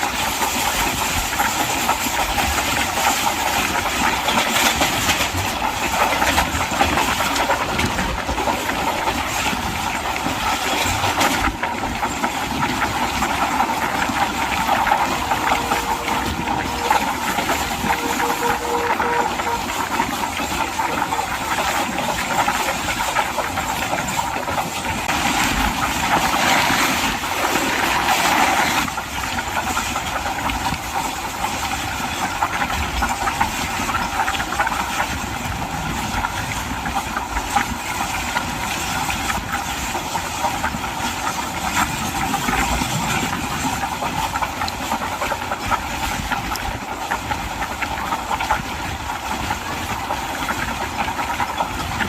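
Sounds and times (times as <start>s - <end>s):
train wheels rattling on rail: 0.0s - 52.0s.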